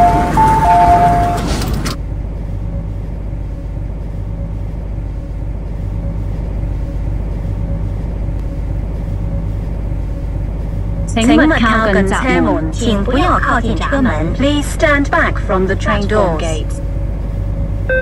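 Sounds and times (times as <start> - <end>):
metro train rumble and hum: 0.0 - 18.0.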